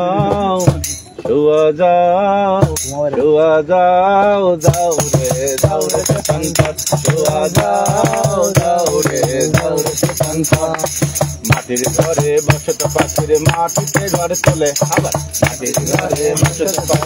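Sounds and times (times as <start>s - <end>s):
rattling shaker beat: 0.0s - 1.6s, 2.6s - 3.4s, 4.6s - 17.0s.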